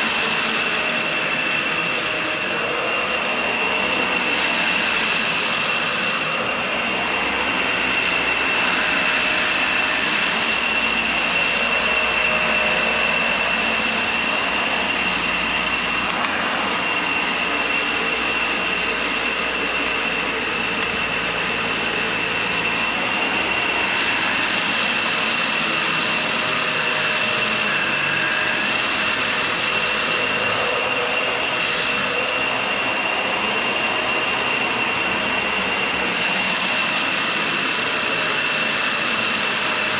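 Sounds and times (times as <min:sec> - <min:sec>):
high-pitched whine: 0:00.0 - 0:39.9
vacuum cleaner running on rug: 0:00.0 - 0:39.9.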